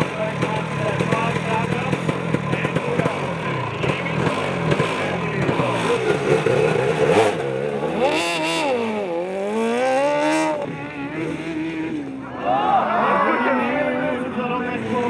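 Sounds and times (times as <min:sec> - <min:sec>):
ride-on lawnmower engines racing: 0:00.0 - 0:15.0.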